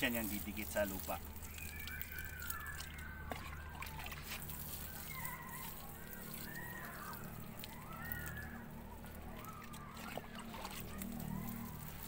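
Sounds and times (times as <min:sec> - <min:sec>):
water drips: 0:00.0 - 0:12.0
water splashing onto soil: 0:00.0 - 0:12.0.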